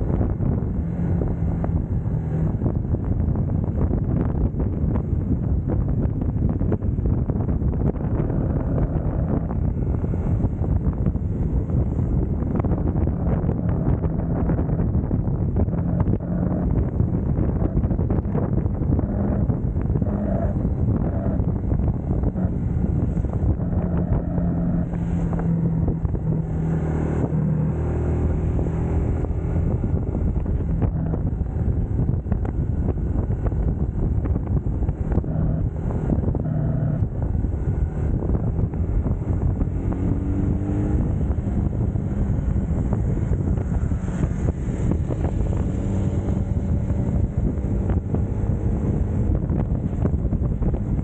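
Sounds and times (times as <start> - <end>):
motorcycle engine running: 0.0 - 51.0
wind buffeting microphone: 0.0 - 51.0.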